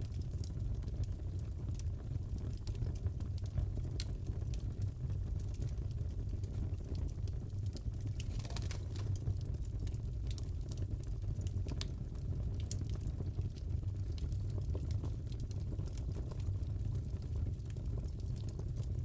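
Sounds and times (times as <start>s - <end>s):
fire crackles and pops: 0.0s - 19.0s
fire rumbling: 0.0s - 19.0s.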